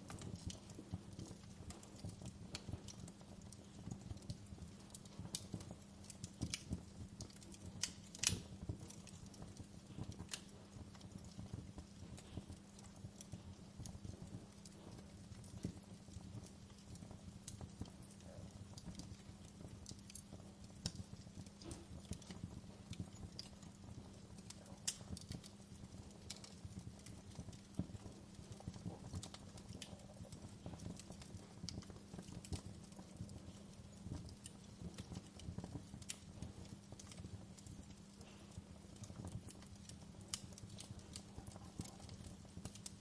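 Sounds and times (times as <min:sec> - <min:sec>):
low steady fire background: 0:00.0 - 0:43.0
wood fire pops and snaps: 0:00.0 - 0:43.0.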